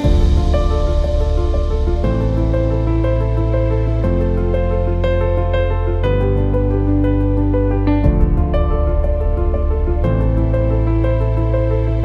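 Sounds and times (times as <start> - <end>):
deep bass: 0.0 - 12.0.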